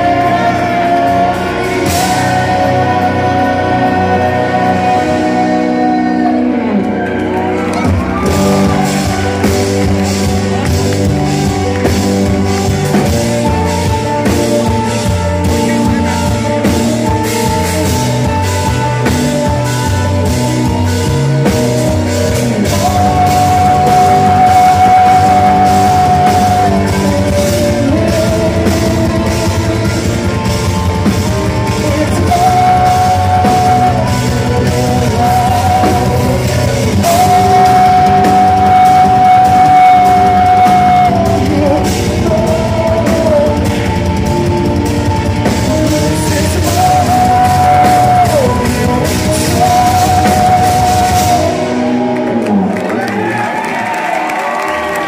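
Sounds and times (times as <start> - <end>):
high held melody line: 0.0 - 55.0
live metal band playing: 0.0 - 55.0.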